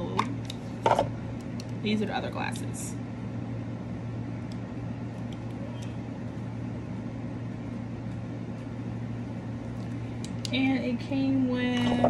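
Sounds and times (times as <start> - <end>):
ceiling fan hum: 0.0 - 12.0.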